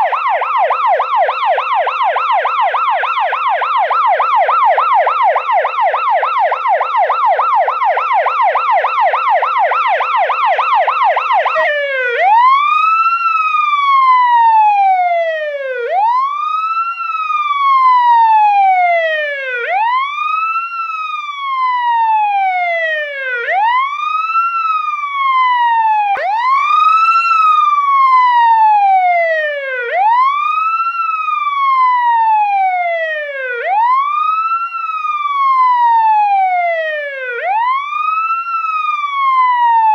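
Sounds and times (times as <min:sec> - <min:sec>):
police siren yelp and wail: 0:00.0 - 0:39.9.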